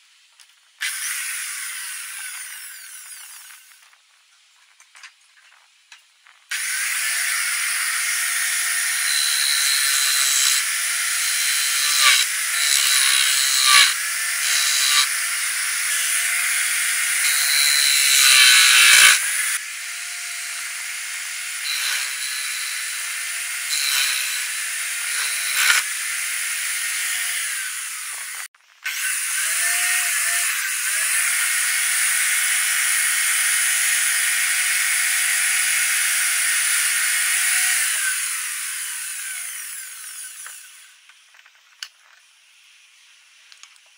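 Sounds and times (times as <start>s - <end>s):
electric drill whine: 0.8s - 3.9s, 6.5s - 41.0s.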